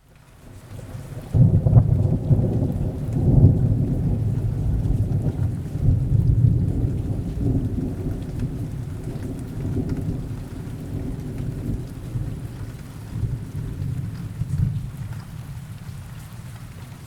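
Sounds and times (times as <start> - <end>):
steady rain: 0.0 - 17.0
rolling thunder rumble: 0.8 - 16.7.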